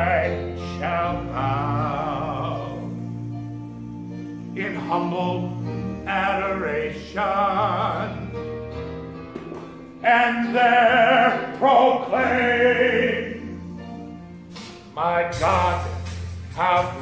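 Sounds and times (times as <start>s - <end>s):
man singing operatically: 0.0s - 8.4s, 10.0s - 14.3s, 14.9s - 17.0s.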